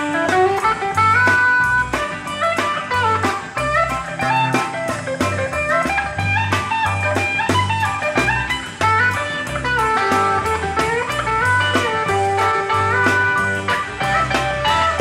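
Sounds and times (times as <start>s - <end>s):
bass notes: 0.0s - 15.0s
electric lead guitar melody: 0.0s - 15.0s
steady drum beat: 0.0s - 15.0s.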